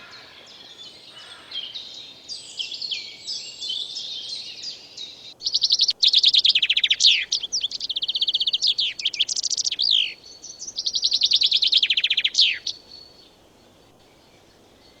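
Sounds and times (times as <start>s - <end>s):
songbird singing trills: 0.0s - 15.0s.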